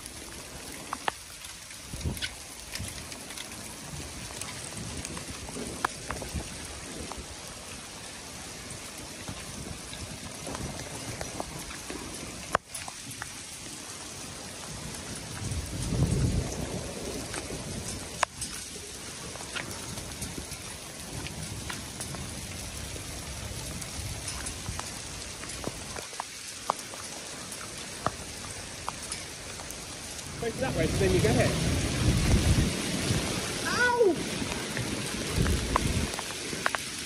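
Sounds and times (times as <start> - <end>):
rain on wet paving: 0.0 - 37.0.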